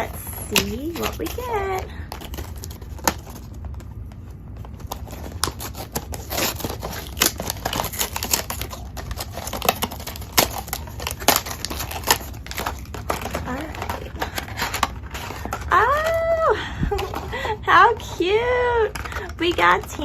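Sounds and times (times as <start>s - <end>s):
packaging clicks: 0.0s - 17.6s, 18.8s - 20.0s
cardboard tearing and crinkling: 0.0s - 20.0s.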